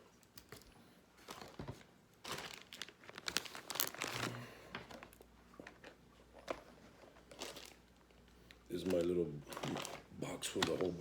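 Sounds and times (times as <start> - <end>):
plastic packaging crinkling: 1.2 - 11.0.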